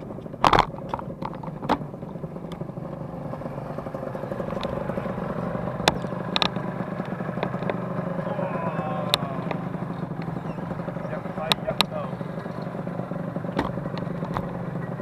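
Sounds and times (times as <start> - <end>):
sharp clicks and clatters: 0.0 - 2.7, 3.7 - 7.9, 9.1 - 15.0
small motorcycle engines running: 0.0 - 15.0.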